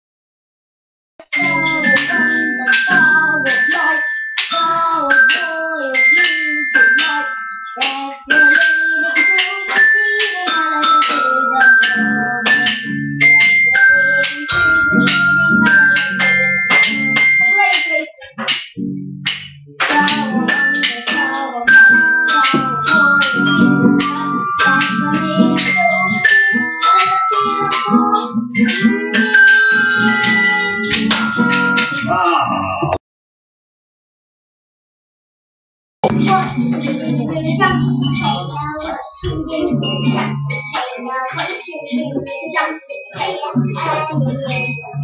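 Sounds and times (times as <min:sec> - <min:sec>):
mallet percussion music: 0:01.2 - 0:32.2, 0:36.0 - 0:45.0.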